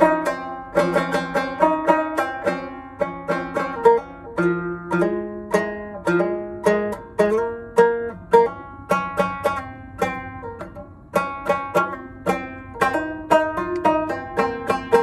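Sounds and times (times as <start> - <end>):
banjo plucked notes and chords: 0.0 - 15.0.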